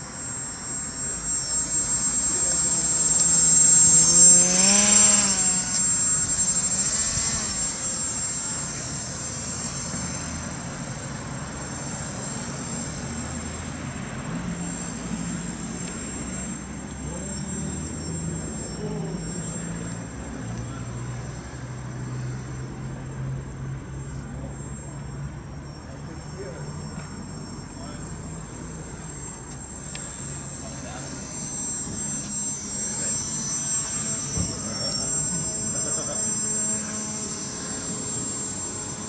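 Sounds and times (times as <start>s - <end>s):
electric model aircraft propeller buzz: 0.0s - 39.0s.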